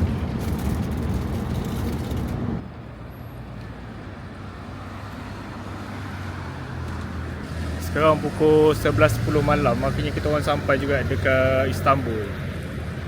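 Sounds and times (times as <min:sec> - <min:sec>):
bus engine and road noise: 0:00.0 - 0:13.0
traffic rumble: 0:00.0 - 0:13.0.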